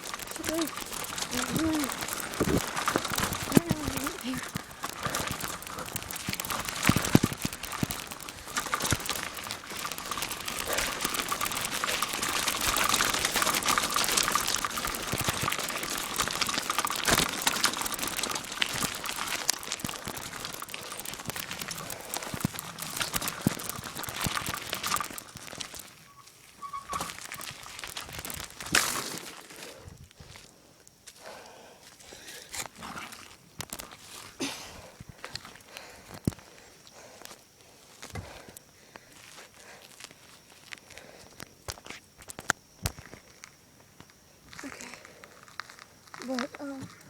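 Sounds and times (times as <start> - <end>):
bicycle riding rustle: 0.0 - 47.0.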